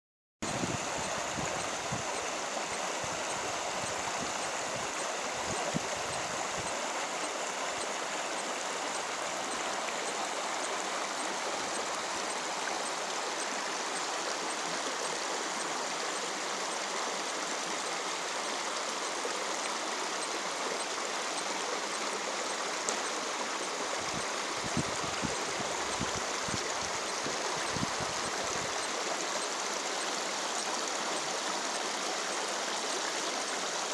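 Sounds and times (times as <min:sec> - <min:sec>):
brook babbling over stones: 0:00.4 - 0:33.9.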